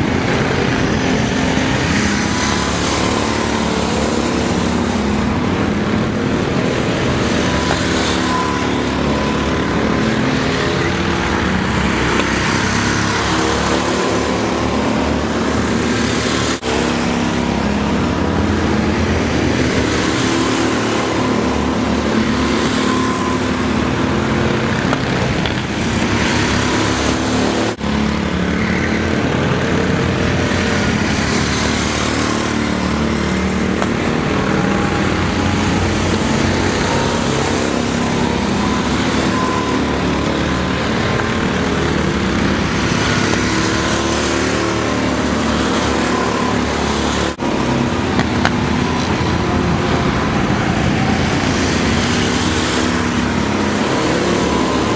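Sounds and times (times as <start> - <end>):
go-kart engines racing: 0.0 - 54.9.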